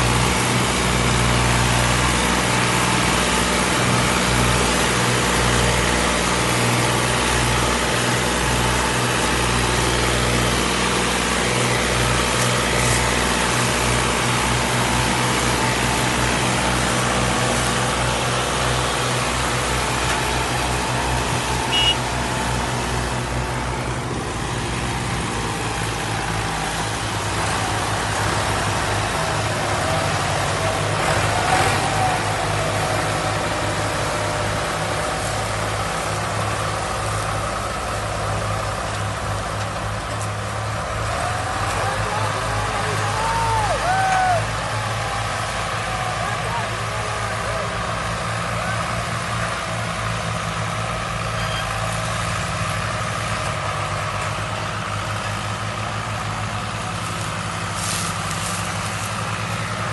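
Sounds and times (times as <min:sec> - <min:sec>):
heavy farm machinery engine running: 0:00.0 - 0:59.9.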